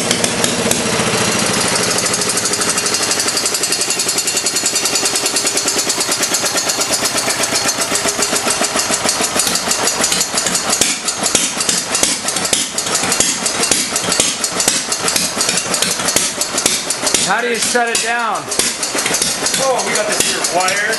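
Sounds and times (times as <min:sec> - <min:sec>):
stationary engine firing: 0:00.0 - 0:20.9.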